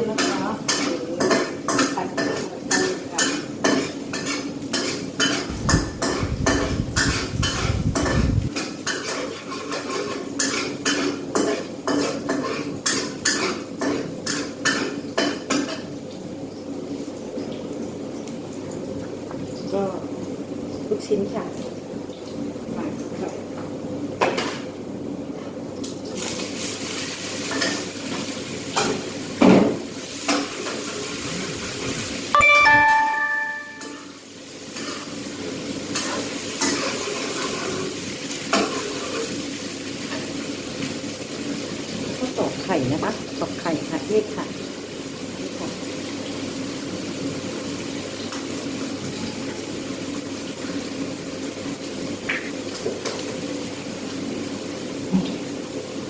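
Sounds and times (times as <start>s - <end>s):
food sizzling in oil: 0.0s - 23.6s, 25.8s - 56.0s.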